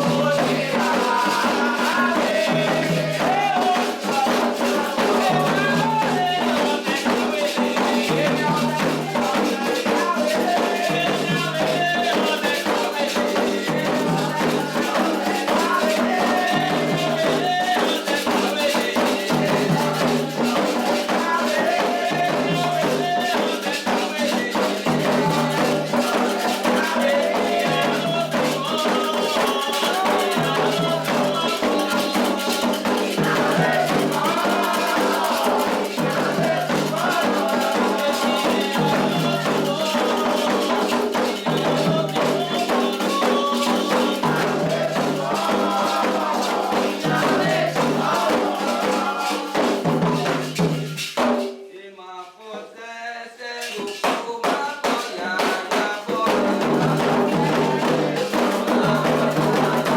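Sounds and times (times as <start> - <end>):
chant singing: 0.0 - 50.8, 51.7 - 59.9
shaken rattle: 0.0 - 51.2
hand drums: 0.0 - 51.6, 53.6 - 59.9.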